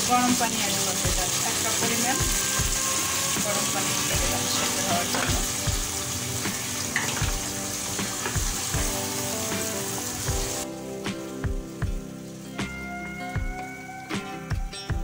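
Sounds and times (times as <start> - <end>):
curry sizzling in a pot: 0.0 - 15.0
background music with beat: 1.0 - 15.0.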